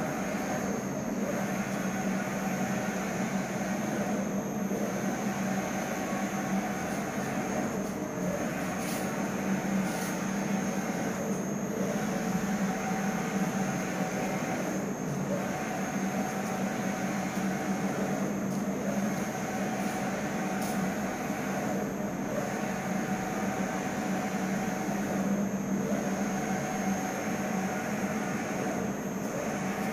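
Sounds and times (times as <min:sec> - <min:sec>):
printer machine hum: 0:00.0 - 0:29.9.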